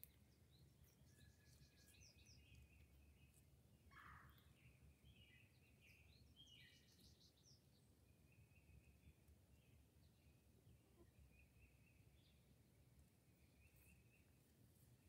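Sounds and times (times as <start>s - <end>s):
birds chirping and trilling: 0.0s - 12.6s, 13.3s - 14.4s.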